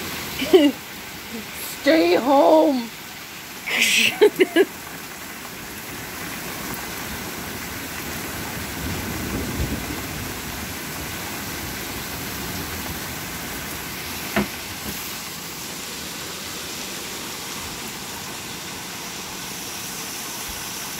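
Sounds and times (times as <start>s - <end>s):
heavy rain: 0.0s - 20.9s.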